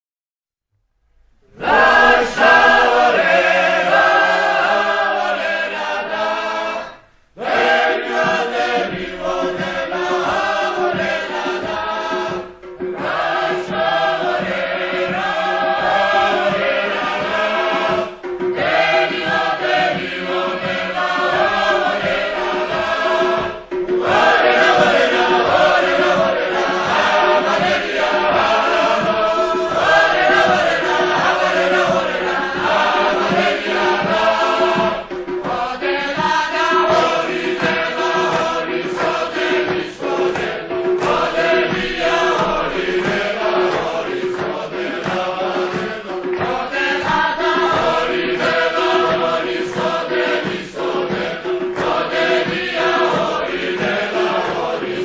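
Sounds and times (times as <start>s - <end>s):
choir singing: 1.5s - 55.0s.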